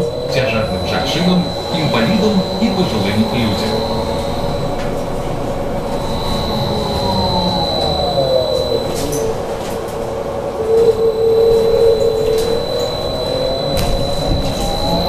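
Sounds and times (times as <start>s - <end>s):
electric traction drive whining: 0.0s - 15.0s
high whistle: 0.0s - 15.0s.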